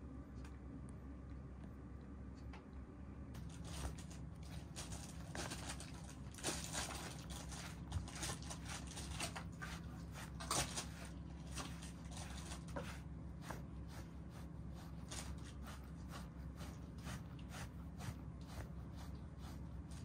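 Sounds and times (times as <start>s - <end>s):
brush swishing through fur: 3.4s - 20.0s.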